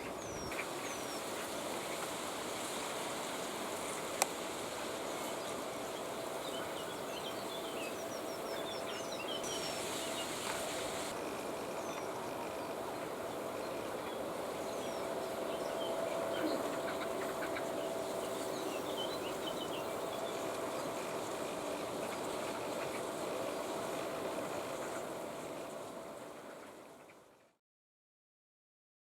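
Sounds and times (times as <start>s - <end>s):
faint constant hum: 0.0s - 27.6s.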